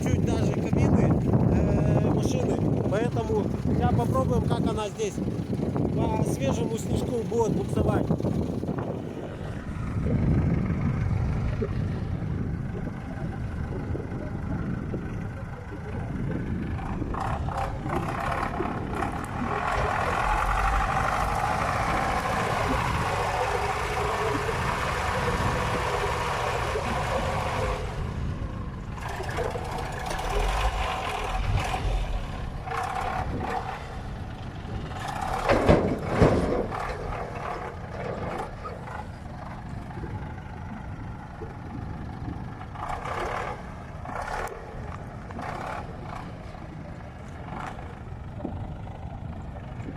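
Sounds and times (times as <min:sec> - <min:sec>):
truck engine rumbling and whining: 0:00.0 - 0:49.9.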